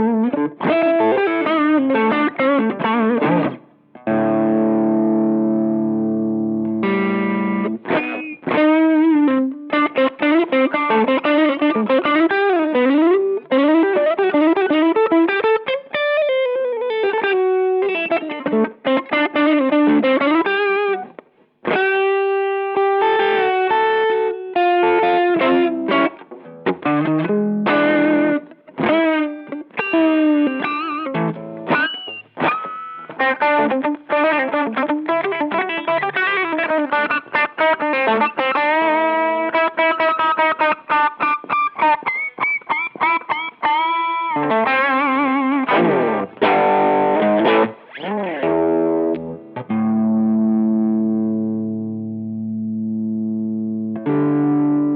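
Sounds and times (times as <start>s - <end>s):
overdriven electric guitar: 0.0s - 54.9s.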